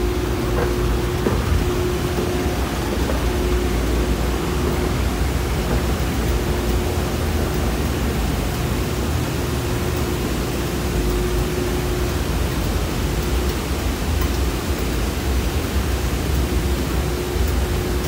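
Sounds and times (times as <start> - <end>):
escalator rumble and hiss: 0.0 - 18.0
faint steady hum: 0.0 - 18.0.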